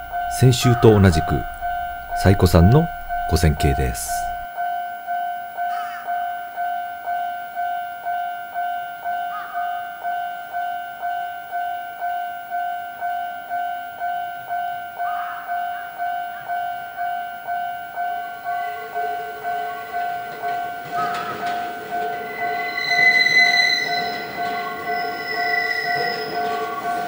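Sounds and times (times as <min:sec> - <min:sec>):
electric train running slowly: 0:00.0 - 0:27.0
level crossing bell ringing: 0:00.0 - 0:27.0.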